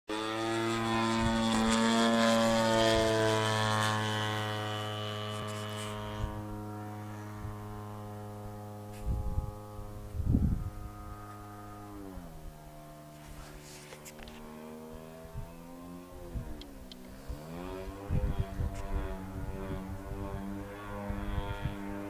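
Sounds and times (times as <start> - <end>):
model airplane motor droning: 0.1 - 22.0.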